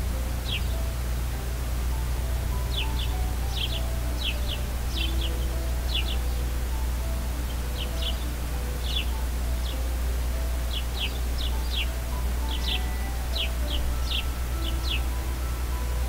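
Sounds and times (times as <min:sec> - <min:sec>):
bird chirping: 0:00.0 - 0:16.0
low steady drone: 0:00.0 - 0:16.0
soft slow background music: 0:00.0 - 0:16.0.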